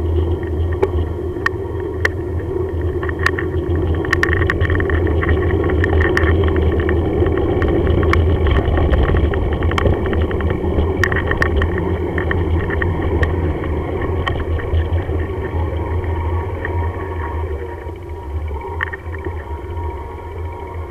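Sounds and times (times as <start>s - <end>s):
bike rattles and clicks: 0.0s - 16.9s
bicycle rolling on rough tarmac: 0.0s - 20.9s.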